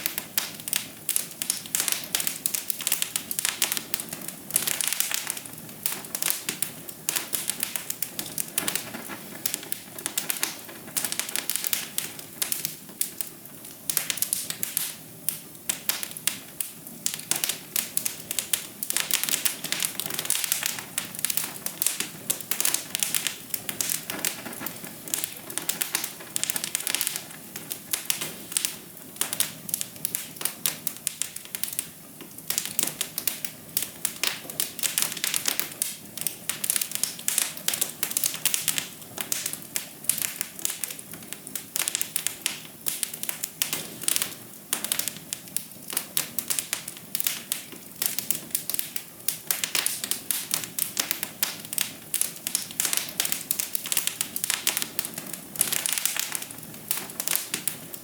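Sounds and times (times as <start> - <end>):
small pops and snaps: 0.0 - 58.0
wood fire crackling: 0.0 - 58.0.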